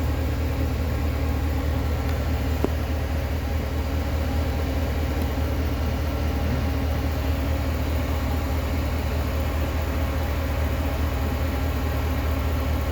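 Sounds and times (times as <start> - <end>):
low rumble of machinery: 0.0 - 12.9.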